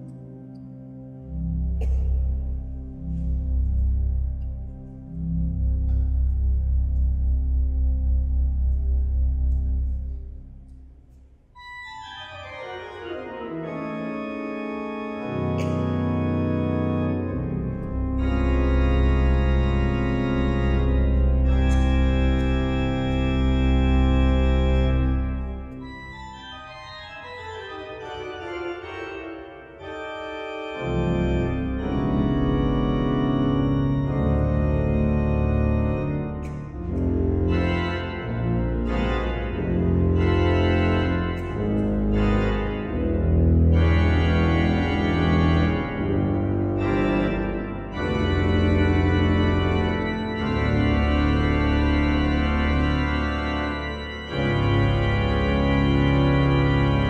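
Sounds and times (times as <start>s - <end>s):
pipe organ playing: 0.0s - 57.0s.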